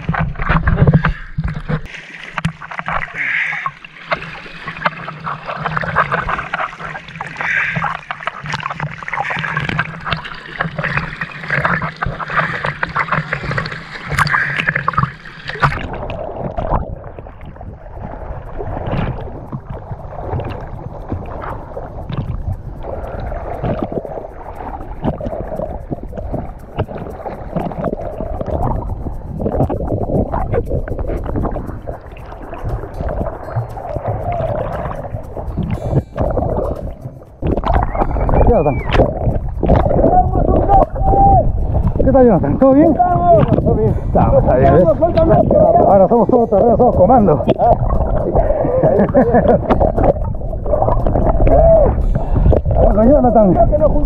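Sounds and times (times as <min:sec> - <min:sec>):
seawater sloshing and splashing: 0:00.0 - 0:54.0.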